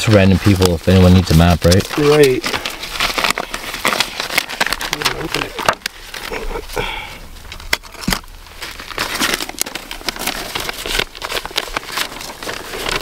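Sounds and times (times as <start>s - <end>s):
paper map crinkling and rustling: 0.0s - 13.0s.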